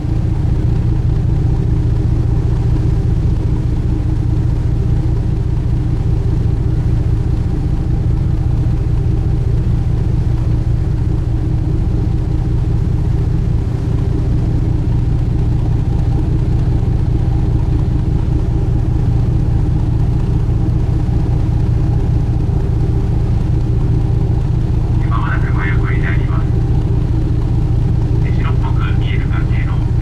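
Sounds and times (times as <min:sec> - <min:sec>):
boat engine drone: 0:00.0 - 0:30.0
steady tones: 0:00.0 - 0:30.0.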